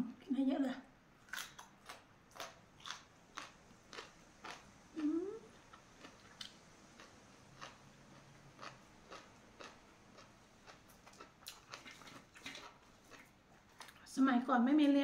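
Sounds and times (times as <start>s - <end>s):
person chewing crunchy food: 1.2s - 14.0s.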